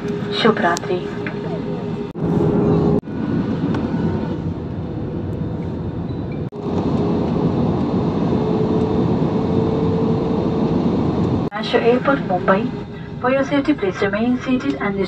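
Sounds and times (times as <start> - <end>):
jet engines and airflow rushing: 0.0 - 15.0
steady cabin hum: 0.0 - 15.0.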